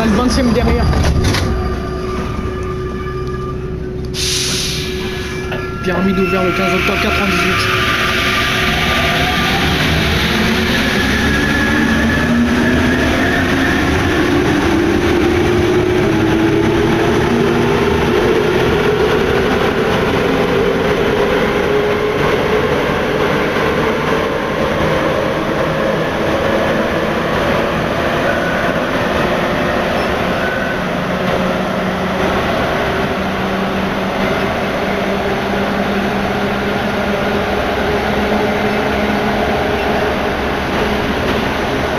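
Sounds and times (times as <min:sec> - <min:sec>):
train rolling rumble: 0:00.0 - 0:41.9.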